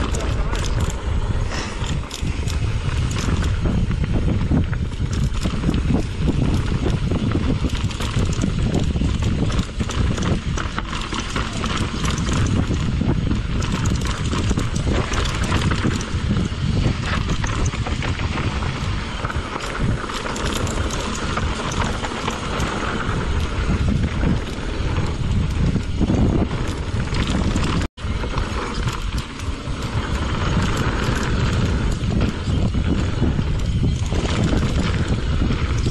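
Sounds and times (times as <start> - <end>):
wind rush on microphone: 0.0 - 35.9
bike clattering over rocks: 4.8 - 35.9.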